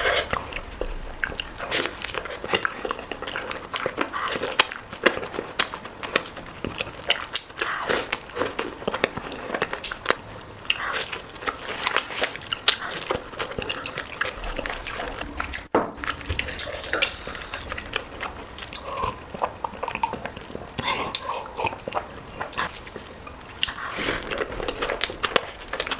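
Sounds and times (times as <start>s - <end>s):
close-miked chewing and mouth smacks: 0.0s - 25.9s.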